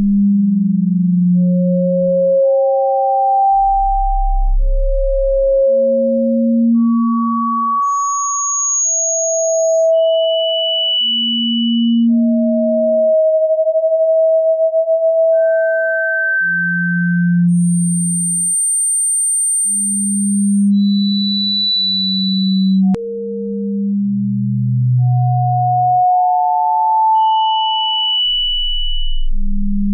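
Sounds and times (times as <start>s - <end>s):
pure sine tones: 0.0s - 29.9s.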